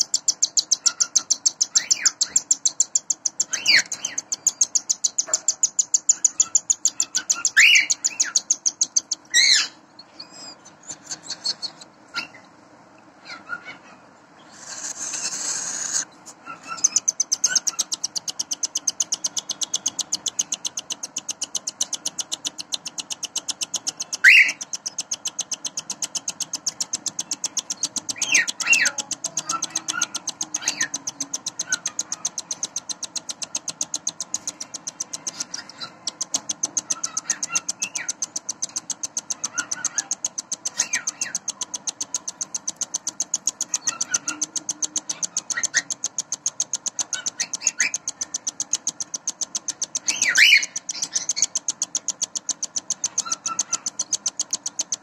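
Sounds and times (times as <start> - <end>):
chicks raspy begging pulses: 0.0 - 55.0
chicks squeaking: 0.0 - 55.0.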